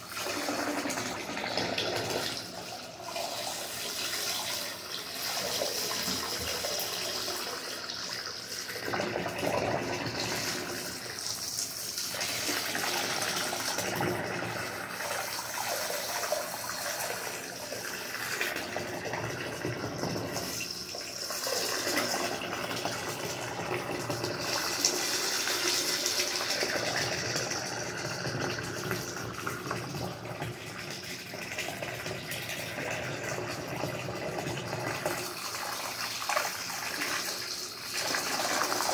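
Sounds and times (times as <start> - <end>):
water pouring and splashing: 0.0 - 38.9.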